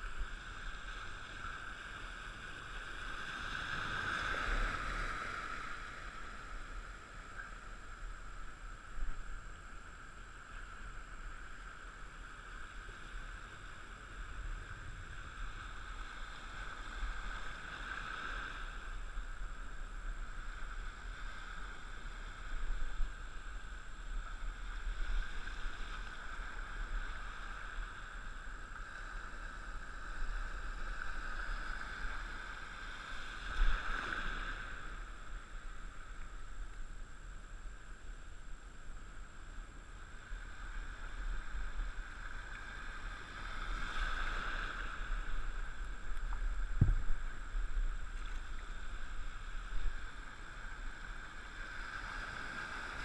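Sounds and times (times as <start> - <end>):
waves washing on shore: 0.0 - 53.0
wind rumble on microphone: 0.0 - 53.0.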